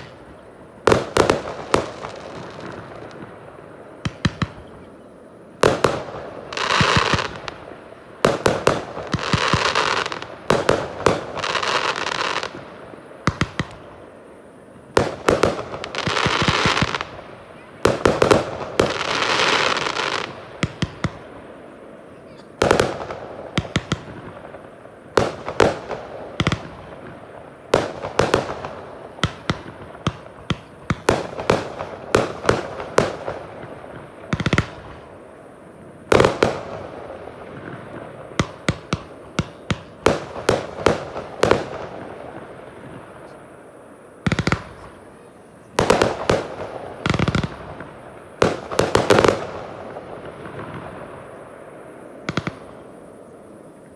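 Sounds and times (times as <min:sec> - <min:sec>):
rapid firework cracks: 0:00.0 - 0:04.8, 0:05.6 - 0:14.3, 0:14.9 - 0:21.5, 0:22.6 - 0:35.3, 0:36.0 - 0:51.4, 0:52.2 - 0:53.2
fireworks bangs: 0:00.0 - 0:53.9.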